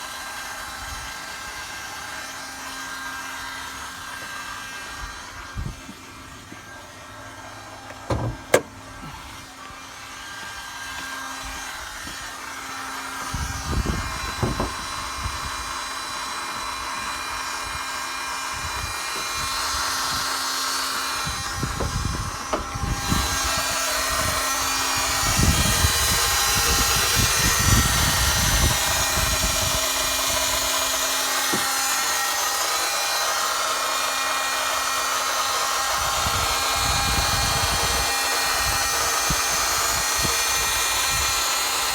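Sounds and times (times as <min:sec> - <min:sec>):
starter motor whining: 0:00.0 - 0:41.9.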